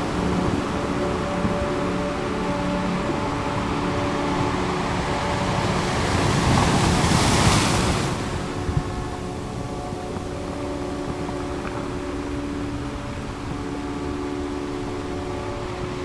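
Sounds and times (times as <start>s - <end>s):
soft drone of held tones: 0.0s - 16.0s.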